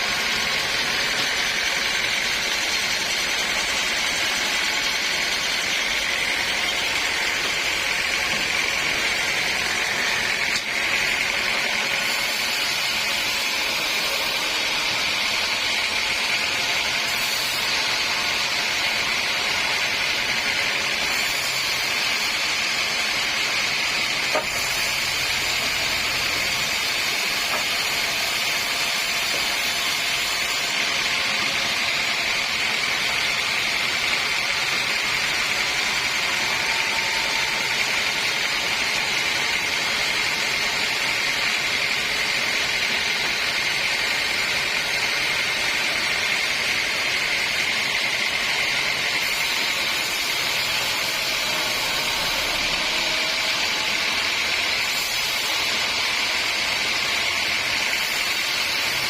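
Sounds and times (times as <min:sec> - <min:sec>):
sawmill saw hissing: 0:00.0 - 0:59.0.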